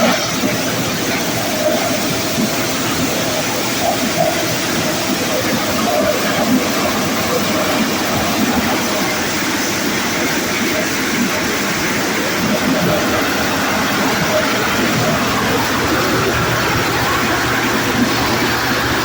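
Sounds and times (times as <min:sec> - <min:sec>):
corn sheller running: 0:00.0 - 0:19.0.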